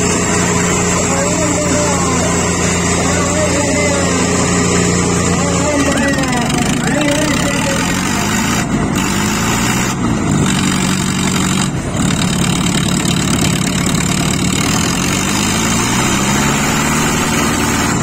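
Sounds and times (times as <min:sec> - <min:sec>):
diesel tractor engines straining: 0:00.0 - 0:18.0.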